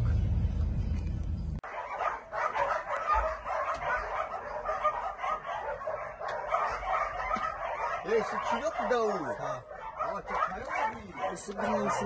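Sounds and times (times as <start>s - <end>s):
dogs barking and yapping: 1.6s - 12.0s.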